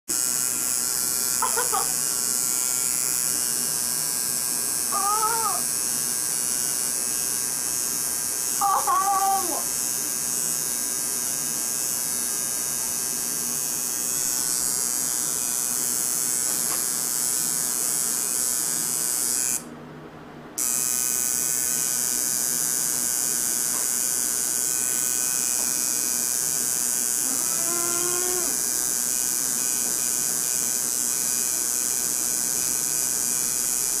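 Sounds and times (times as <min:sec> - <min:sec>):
tattoo machine buzzing: 0:00.1 - 0:19.8, 0:20.6 - 0:34.0.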